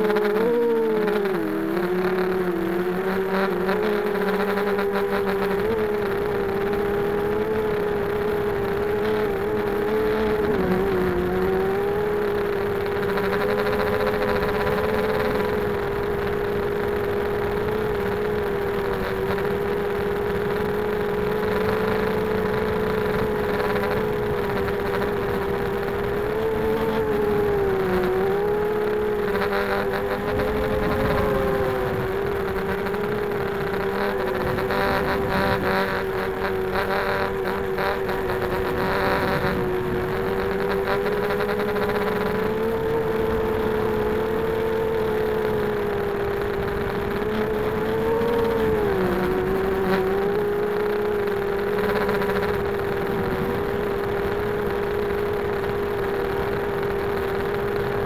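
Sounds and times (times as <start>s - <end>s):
quadcopter motor and prop whine: 0.0s - 58.0s.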